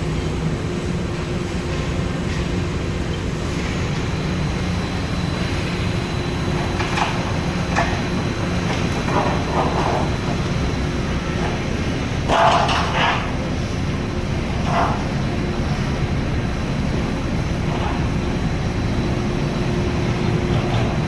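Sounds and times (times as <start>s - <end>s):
heavy mechanical rumble: 0.0s - 21.0s.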